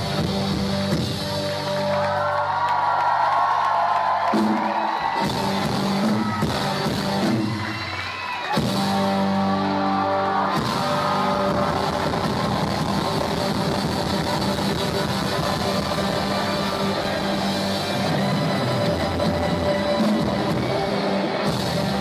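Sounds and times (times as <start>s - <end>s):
live rock band playing: 0.0s - 2.4s, 4.2s - 22.0s.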